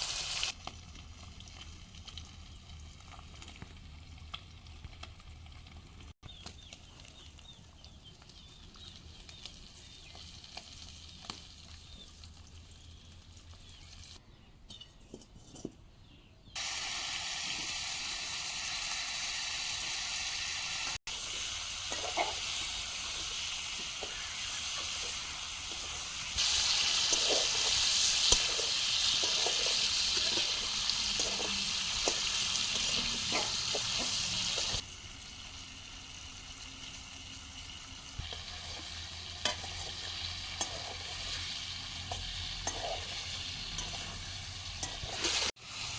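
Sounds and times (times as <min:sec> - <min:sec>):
fish curry sizzling in a pan: 0:00.0 - 0:14.2, 0:16.6 - 0:45.9.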